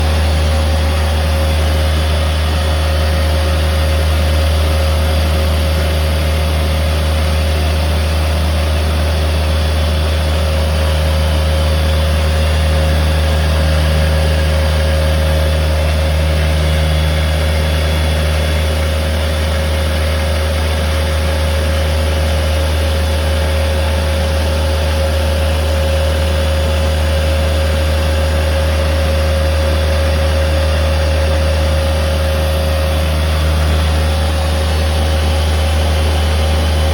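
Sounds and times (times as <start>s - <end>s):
machine low hum: 0.0s - 36.9s.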